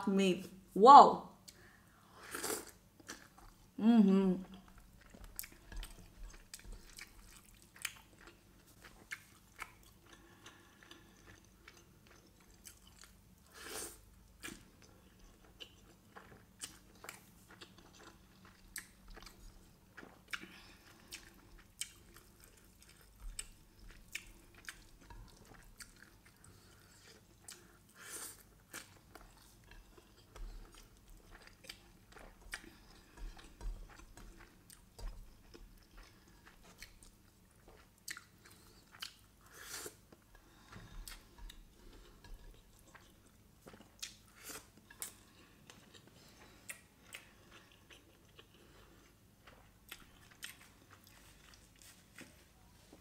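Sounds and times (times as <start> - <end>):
person chewing: 1.4 - 3.8, 4.4 - 52.4.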